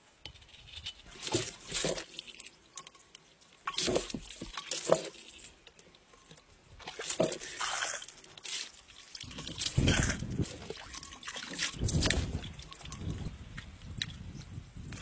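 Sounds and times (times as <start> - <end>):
water gushing through bamboo pipe: 1.0 - 14.2.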